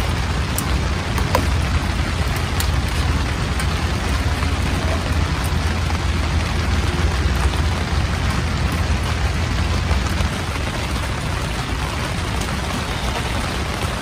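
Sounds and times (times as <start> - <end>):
rain on tent canopy: 0.0 - 14.0.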